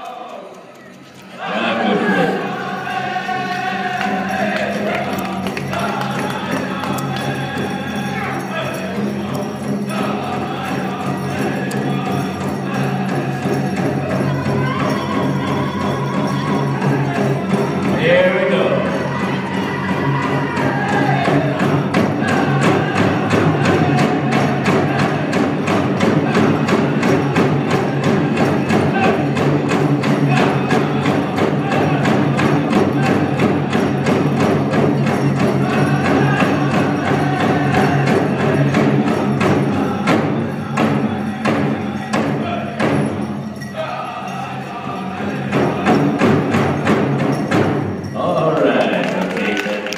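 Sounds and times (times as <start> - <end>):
group singing: 1.2 - 49.2
big drum beating: 4.8 - 48.2.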